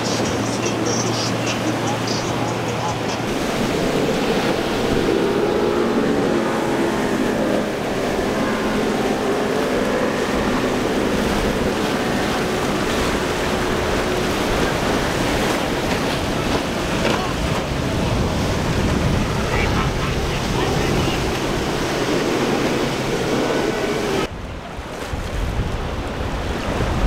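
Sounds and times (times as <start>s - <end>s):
motorboat engine running: 0.0s - 27.0s
surf and waves: 0.0s - 27.0s
wind buffeting microphone: 2.9s - 27.0s.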